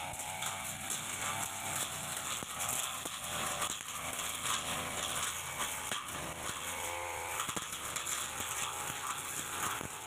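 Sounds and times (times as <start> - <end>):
brush cutter running: 0.0 - 10.0
stems crackling and snapping: 0.0 - 10.0.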